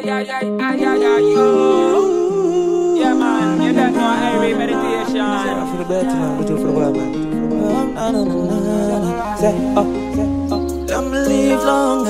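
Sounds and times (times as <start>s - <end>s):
song with wavering melody: 0.0s - 12.0s.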